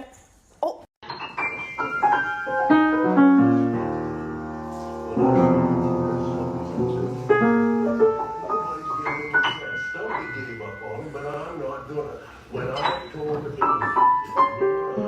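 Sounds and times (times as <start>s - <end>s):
piano music: 1.0s - 15.0s.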